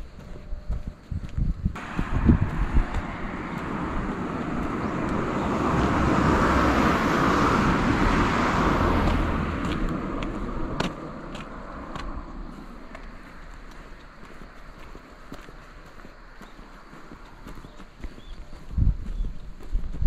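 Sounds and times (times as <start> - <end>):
footsteps on pavement: 0.0 - 20.0
car passing: 1.8 - 18.3.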